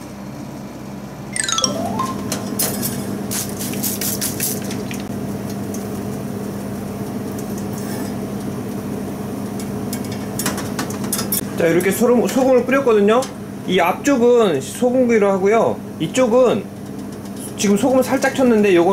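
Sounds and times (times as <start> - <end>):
grill humming and hissing: 2.3 - 18.9.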